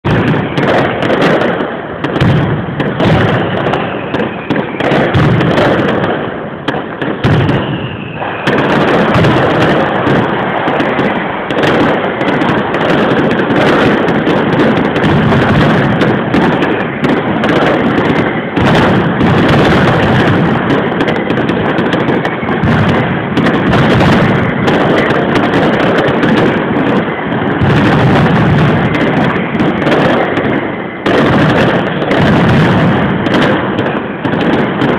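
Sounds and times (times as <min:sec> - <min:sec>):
firecracker bangs and bursts: 0:00.0 - 0:34.9
gliding firework whistles: 0:00.1 - 0:34.9.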